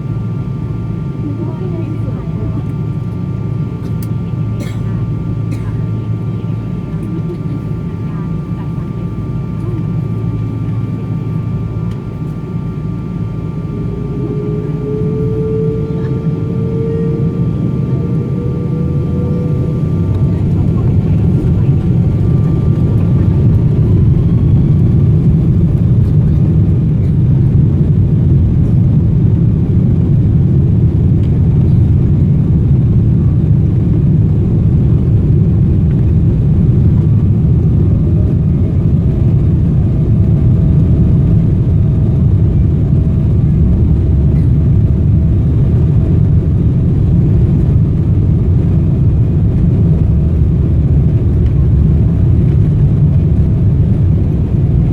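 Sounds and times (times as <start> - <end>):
deep rumble of aircraft engines: 0.0 - 54.9
faint steady whine: 0.0 - 54.9.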